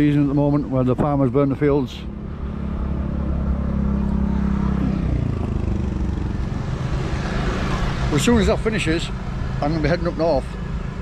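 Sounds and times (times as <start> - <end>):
road traffic noise: 0.0 - 11.0
vehicle engine humming nearby: 0.0 - 11.0.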